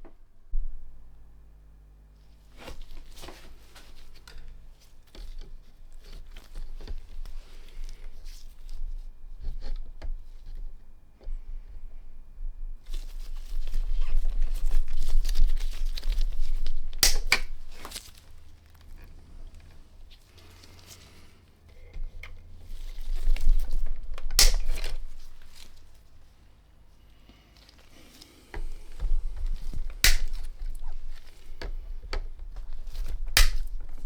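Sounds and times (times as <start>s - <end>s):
handling noise rustling and crinkling: 2.2s - 11.0s, 12.7s - 34.0s.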